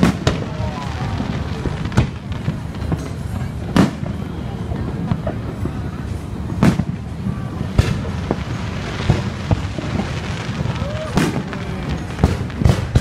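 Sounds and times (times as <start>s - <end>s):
fireworks bangs: 0.0s - 13.0s
small firework pops: 0.0s - 13.0s.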